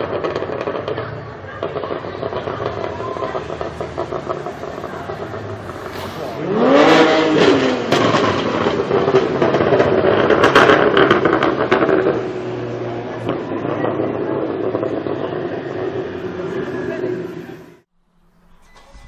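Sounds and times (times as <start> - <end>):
car engine revving: 0.0 - 19.0
exhaust crackles and pops: 0.0 - 19.0.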